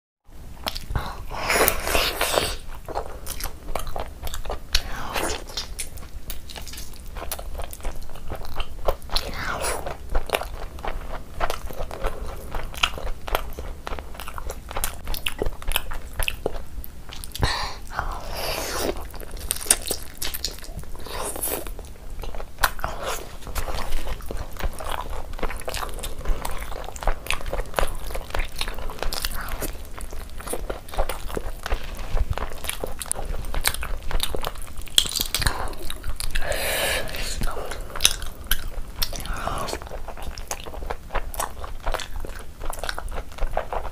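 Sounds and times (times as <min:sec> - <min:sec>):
person chewing chicken: 0:01.6 - 0:43.9.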